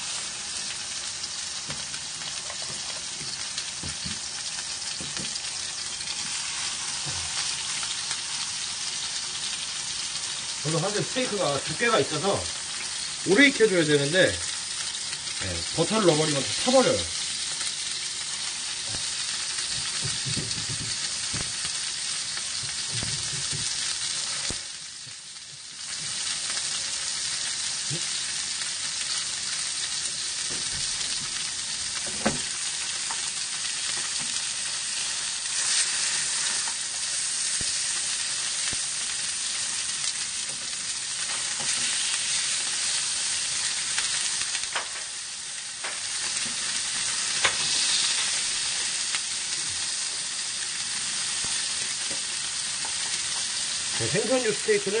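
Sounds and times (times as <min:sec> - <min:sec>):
fish sizzling in frying pan: 0:00.0 - 0:55.0.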